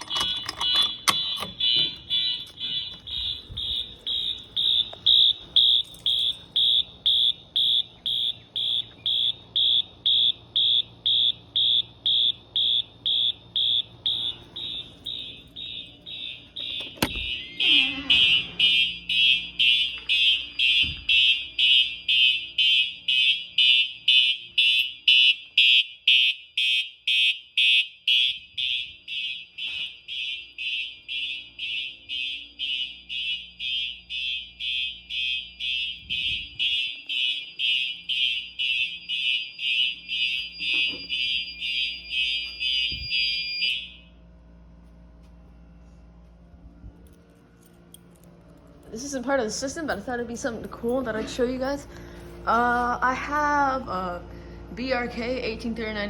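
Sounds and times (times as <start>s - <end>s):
fire alarm horns beeping: 0.0s - 44.7s, 47.0s - 56.0s.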